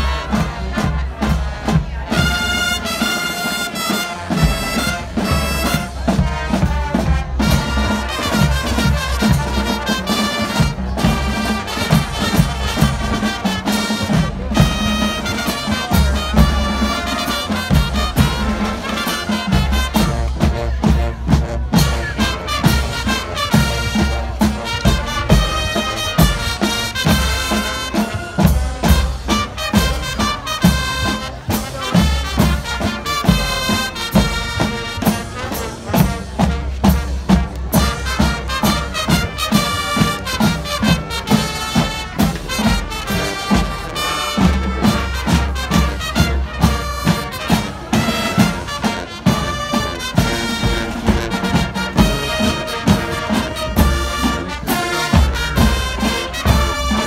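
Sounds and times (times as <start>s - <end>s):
marching band brass melody: 0.0s - 57.0s
steady drum beat: 0.0s - 57.0s.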